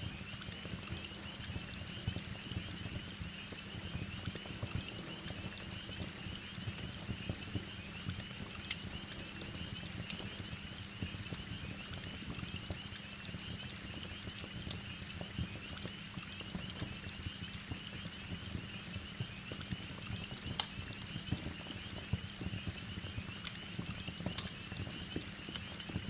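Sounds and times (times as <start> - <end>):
wood fire crackling: 3.0 - 17.6, 19.2 - 26.0.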